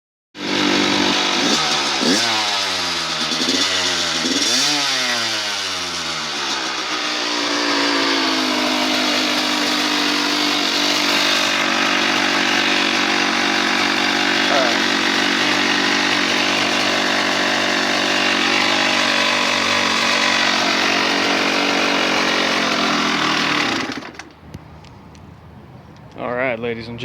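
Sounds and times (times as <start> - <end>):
dirt bike engine revving and idling: 0.4 - 24.3.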